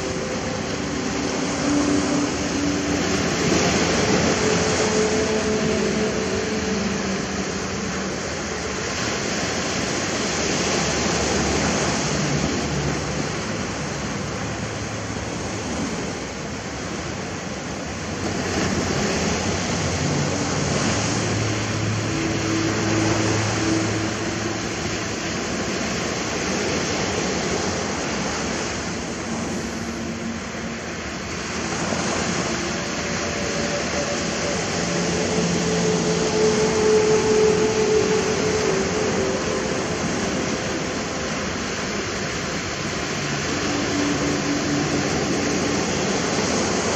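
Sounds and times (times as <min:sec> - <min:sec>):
ocean waves washing onto shore: 0:00.0 - 0:46.9.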